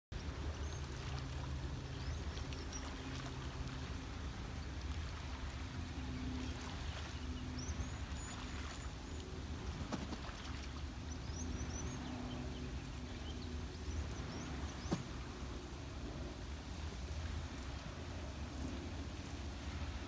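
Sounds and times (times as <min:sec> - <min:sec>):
geese splashing water: 0:00.1 - 0:20.0.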